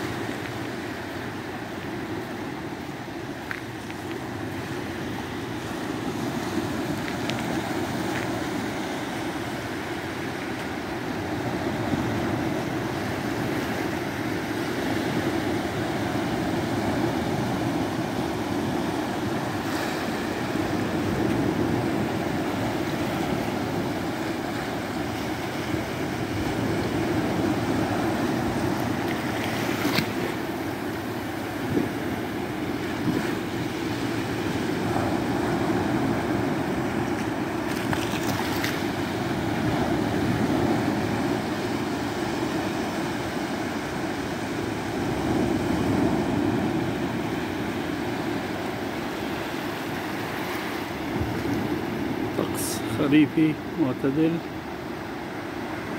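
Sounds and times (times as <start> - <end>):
waves washing up a beach: 0.0 - 55.9.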